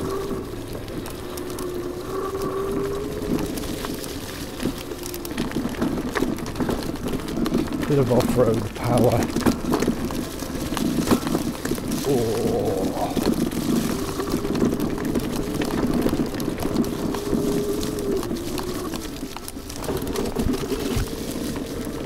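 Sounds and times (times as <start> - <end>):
electric scooter motor whining: 0.0 - 22.0
scooter frame rattling: 0.0 - 22.0
tyres crunching on stones: 0.0 - 22.0.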